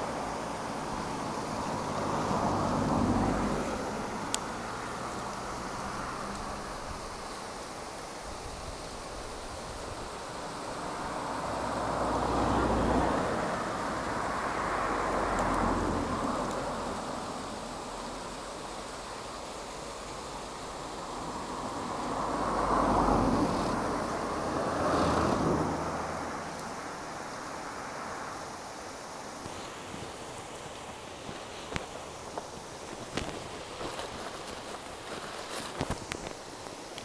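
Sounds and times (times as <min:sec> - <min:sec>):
cars passing close by: 0:00.0 - 0:36.7
background hiss: 0:00.0 - 0:37.0.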